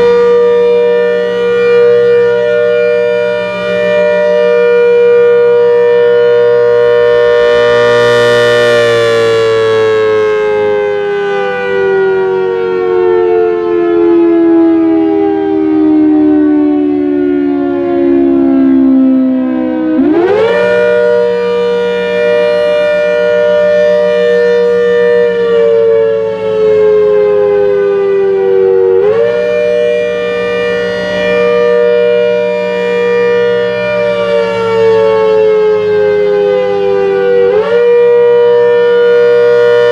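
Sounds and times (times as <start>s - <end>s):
two-tone siren wailing: 0.0s - 39.9s.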